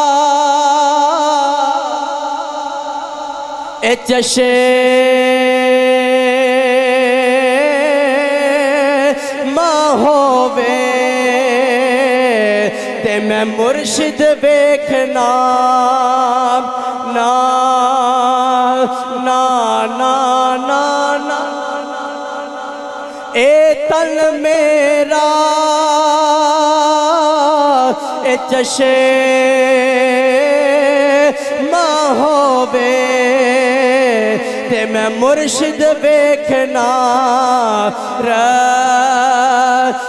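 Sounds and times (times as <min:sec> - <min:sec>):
man singing unaccompanied: 0:00.0 - 0:40.0.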